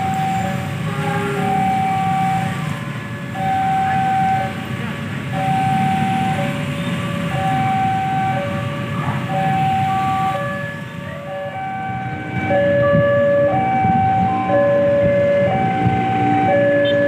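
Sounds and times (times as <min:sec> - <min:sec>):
two-tone crossing alarm: 0:00.0 - 0:17.0.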